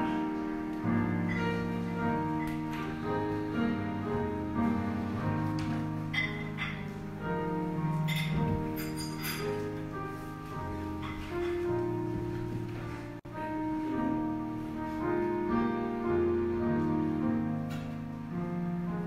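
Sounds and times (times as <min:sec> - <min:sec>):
slow instrumental chords: 0:00.0 - 0:19.0.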